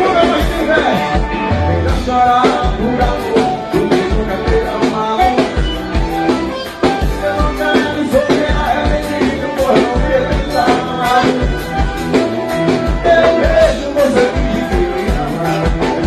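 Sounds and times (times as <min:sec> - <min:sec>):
upbeat band music: 0:00.0 - 0:16.0.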